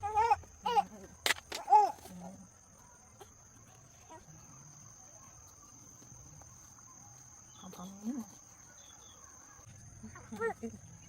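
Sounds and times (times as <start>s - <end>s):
crickets droning: 0.0s - 11.0s.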